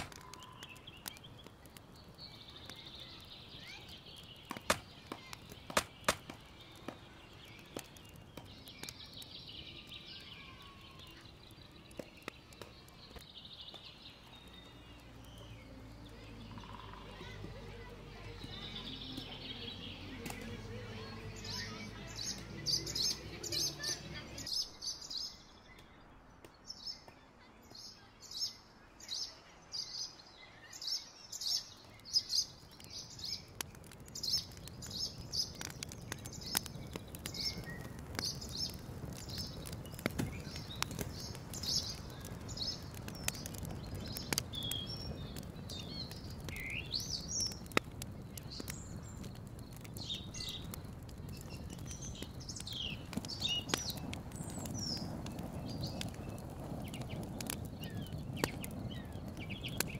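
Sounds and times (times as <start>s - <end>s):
small bird chirping: 0.0s - 20.0s, 27.7s - 59.9s.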